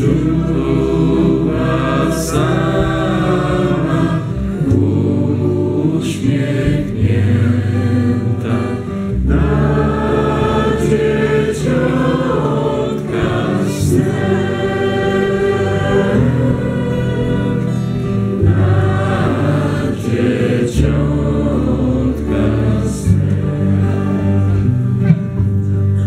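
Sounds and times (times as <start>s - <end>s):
group singing a carol: 0.0s - 25.0s
acoustic guitar: 0.0s - 26.0s.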